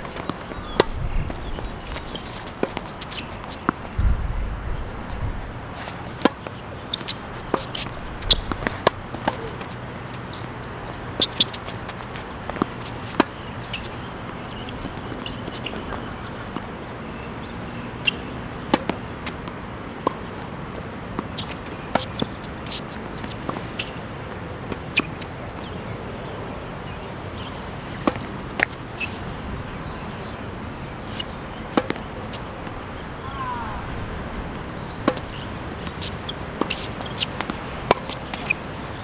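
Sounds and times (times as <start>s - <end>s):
outdoor background hum: 0.0s - 39.0s.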